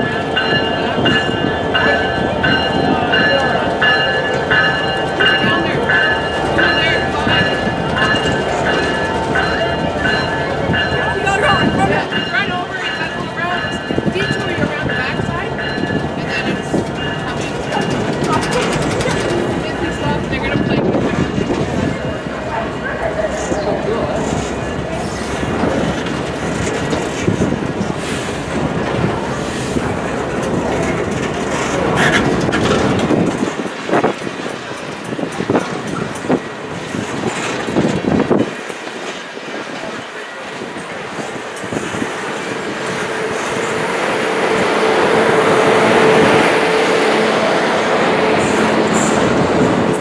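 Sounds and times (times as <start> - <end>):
train wheels clicking over rail joints: 0.0 - 22.4, 23.0 - 50.0.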